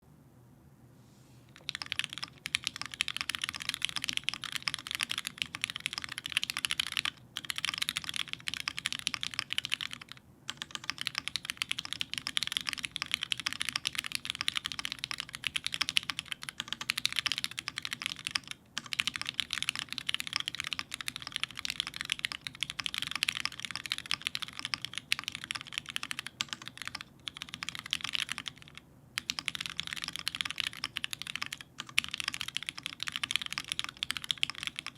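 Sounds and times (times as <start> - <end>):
typing on mechanical keyboard: 1.6 - 34.9.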